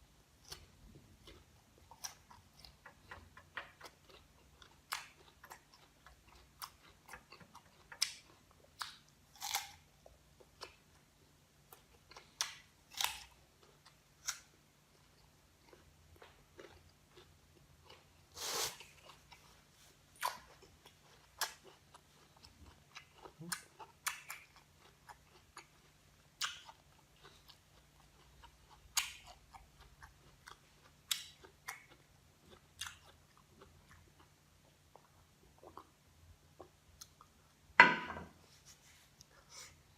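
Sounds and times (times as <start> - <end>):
crunchy chewing of fruit: 0.4 - 11.0, 11.6 - 37.4.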